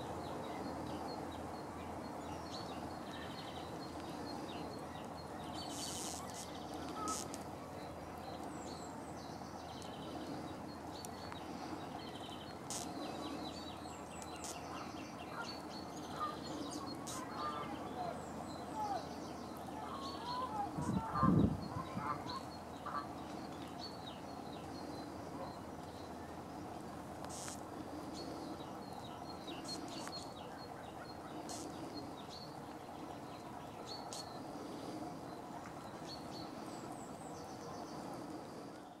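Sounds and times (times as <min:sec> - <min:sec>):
small birds high-pitched calls: 0:01.8 - 0:26.4, 0:27.3 - 0:39.0.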